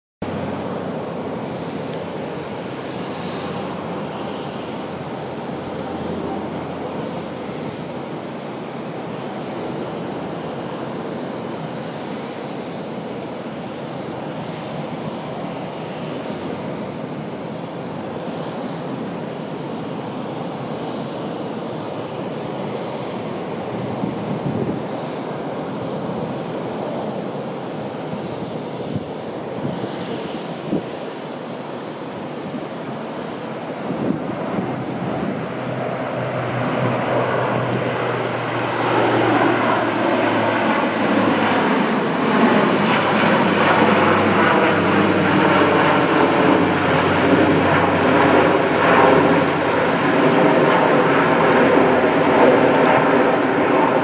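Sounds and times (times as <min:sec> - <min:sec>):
turboprop aircraft drone: 0:00.2 - 0:54.0.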